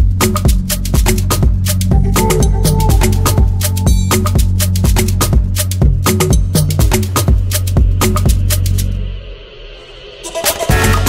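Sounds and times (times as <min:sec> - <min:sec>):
music with quick percussion beat: 0:00.0 - 0:09.0, 0:10.2 - 0:11.0
sustained bass line: 0:00.0 - 0:09.1.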